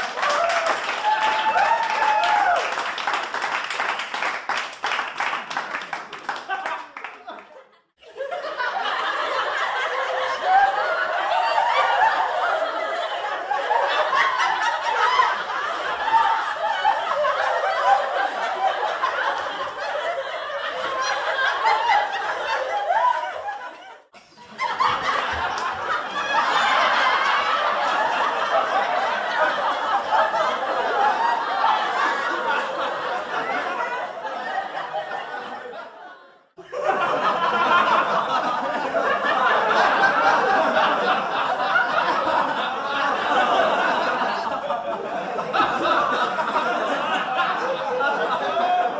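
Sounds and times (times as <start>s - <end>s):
studio audience laughing: 0.0s - 48.9s.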